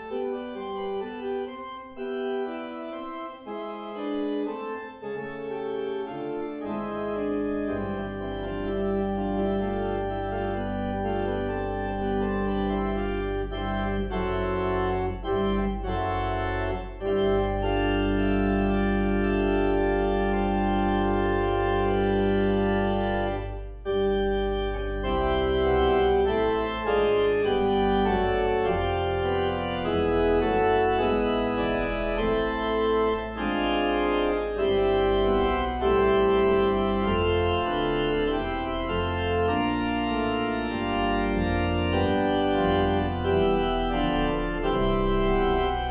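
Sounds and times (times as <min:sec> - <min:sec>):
organ playing chords: 0:00.0 - 0:45.9.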